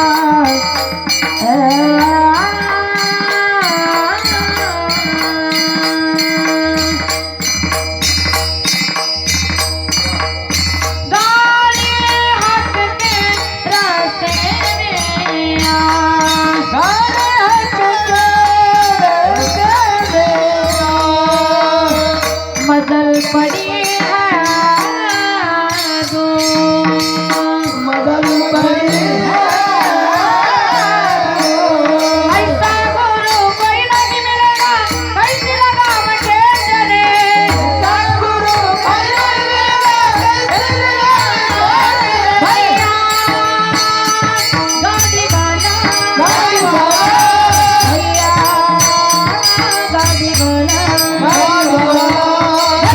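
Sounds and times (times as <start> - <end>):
woman singing devotional song: 0.0 - 52.9.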